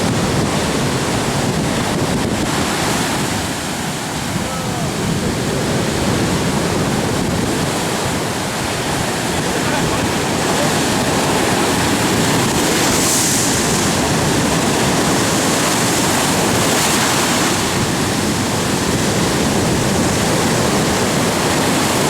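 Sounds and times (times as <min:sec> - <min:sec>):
surf breaking on beach: 0:00.0 - 0:22.0
wind on microphone: 0:00.0 - 0:22.0.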